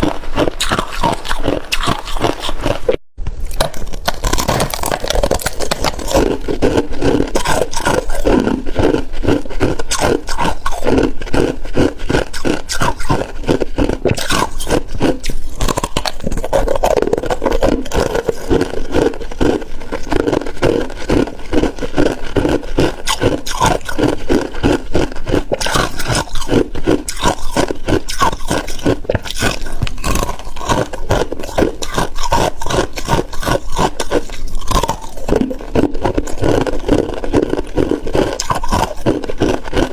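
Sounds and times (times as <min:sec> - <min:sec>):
chewing ice crunching: 0:00.0 - 0:39.9.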